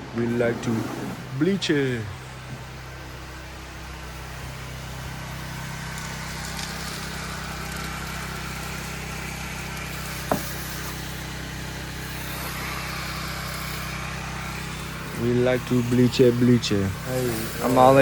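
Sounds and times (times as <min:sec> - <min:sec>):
engine humming: 0:00.0 - 0:18.0
water spray hiss: 0:00.2 - 0:18.0.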